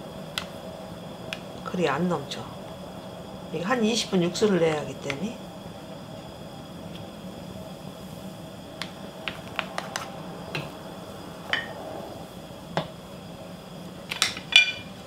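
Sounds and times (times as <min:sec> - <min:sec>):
pot boiling: 0:00.0 - 0:15.0.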